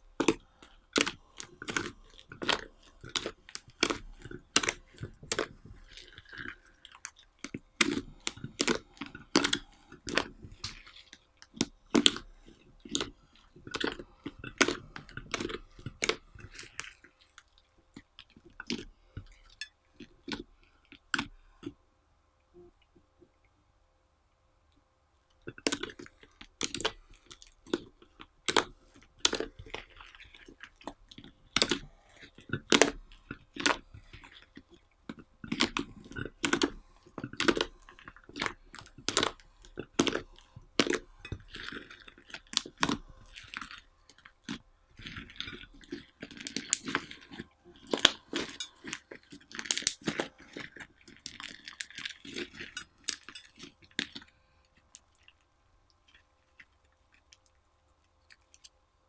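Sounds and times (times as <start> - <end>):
slime squelching: 0.1 - 19.6, 25.5 - 55.4.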